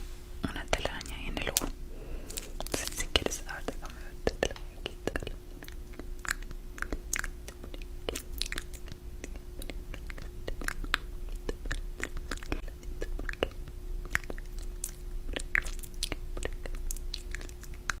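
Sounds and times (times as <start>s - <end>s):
faint steady hum: 0.0s - 18.0s
person chewing crunchy food: 2.2s - 18.0s.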